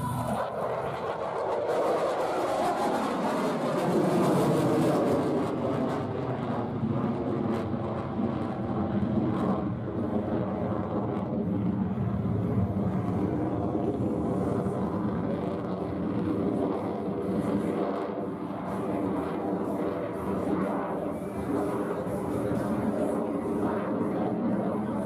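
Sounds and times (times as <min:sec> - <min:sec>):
jet engine rumble overhead: 0:00.0 - 0:25.0.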